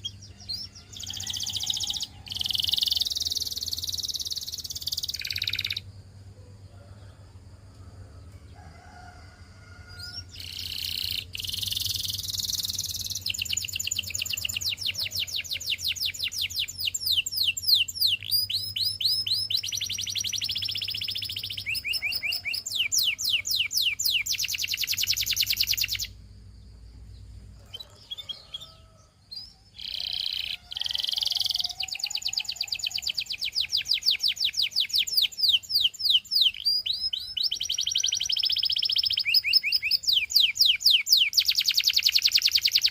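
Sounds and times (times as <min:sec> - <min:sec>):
canary singing trills: 0:00.0 - 0:05.9, 0:09.9 - 0:42.9.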